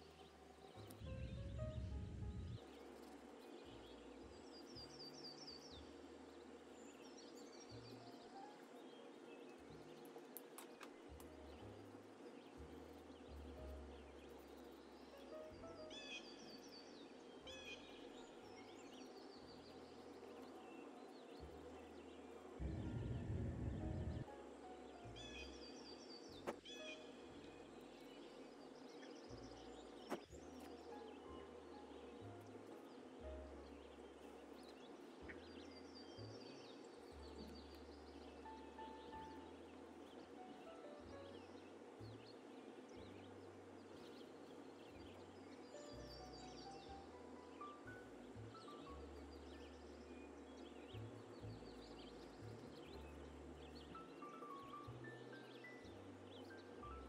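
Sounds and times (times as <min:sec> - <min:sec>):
faint background hiss: 0:00.0 - 0:57.0
faint bird chirps: 0:00.0 - 0:57.0.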